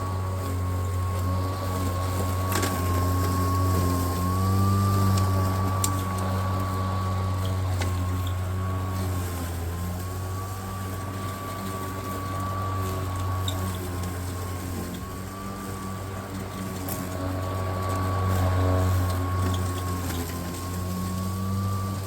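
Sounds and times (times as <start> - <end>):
electric lawn mower running: 0.0 - 22.0.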